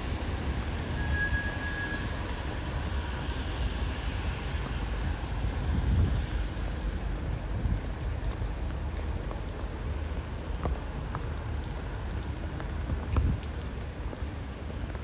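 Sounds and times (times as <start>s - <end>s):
steady rainfall: 0.0s - 15.0s
raindrops ticking close by: 1.6s - 15.0s.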